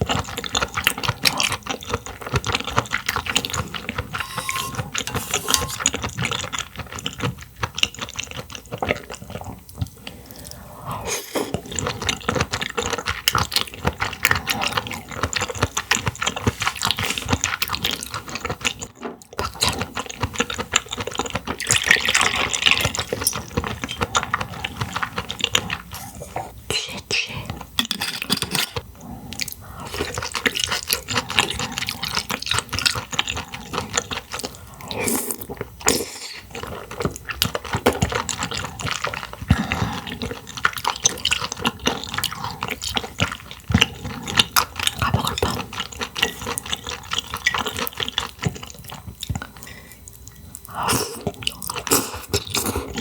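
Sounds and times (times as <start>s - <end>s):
wet chewing and slurping: 0.0s - 53.0s.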